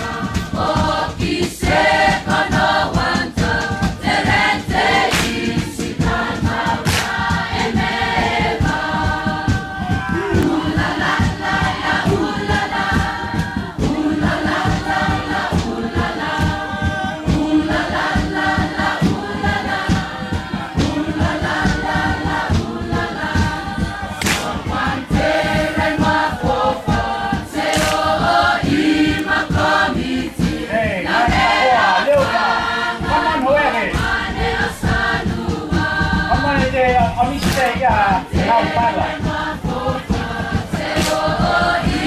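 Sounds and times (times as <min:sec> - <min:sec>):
group singing together: 0:00.0 - 0:42.0
rhythmic hand clapping: 0:00.0 - 0:42.0.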